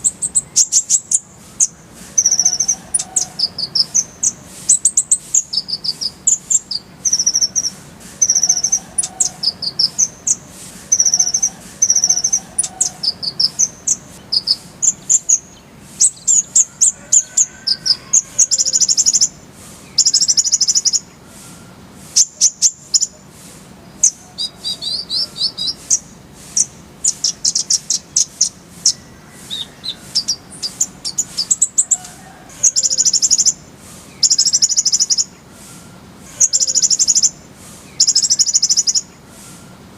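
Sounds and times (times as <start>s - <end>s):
bird chips and trills: 0.0s - 21.3s, 22.1s - 35.5s, 36.4s - 39.2s.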